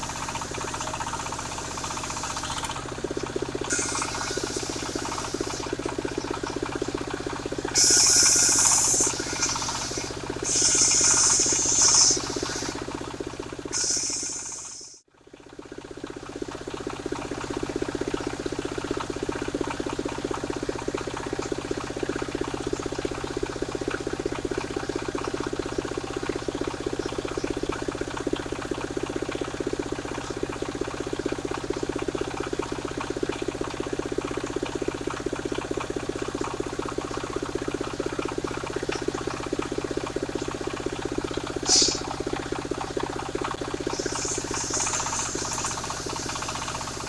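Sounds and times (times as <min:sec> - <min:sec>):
circular sawmill running: 0:00.0 - 0:15.0, 0:15.7 - 0:47.0.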